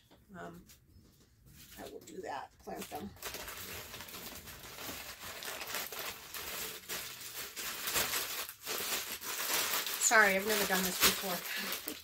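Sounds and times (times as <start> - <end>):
plastic packaging rustling: 1.6 - 12.0.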